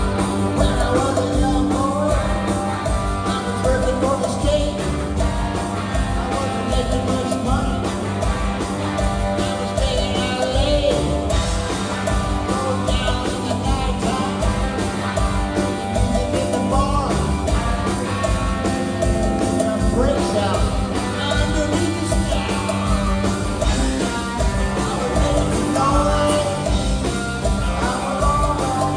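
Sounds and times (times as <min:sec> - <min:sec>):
person singing: 0:00.0 - 0:08.4, 0:09.3 - 0:15.3, 0:15.9 - 0:18.2, 0:19.0 - 0:28.9
rock and roll band playing: 0:00.0 - 0:28.9.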